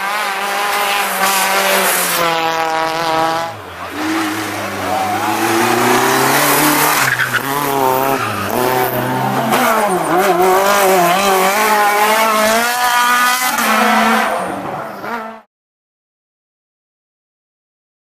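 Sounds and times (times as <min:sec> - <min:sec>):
rally car engines revving: 0:00.0 - 0:15.5.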